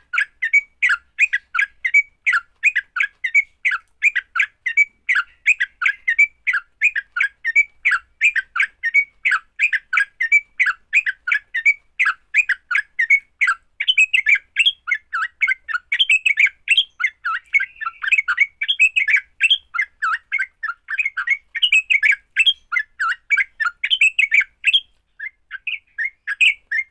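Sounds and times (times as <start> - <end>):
bird chattering call: 0.2 - 26.9.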